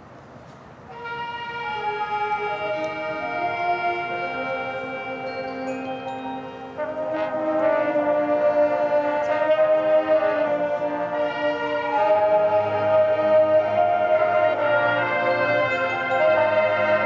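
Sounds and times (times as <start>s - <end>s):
marching band brass chords: 0.9s - 17.0s.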